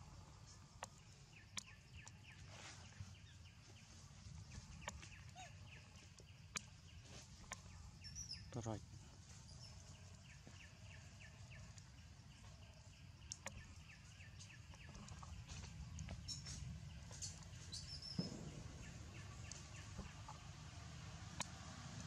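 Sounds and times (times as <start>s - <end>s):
birds chirping: 0.8s - 22.0s
low steady rumble: 3.2s - 22.0s.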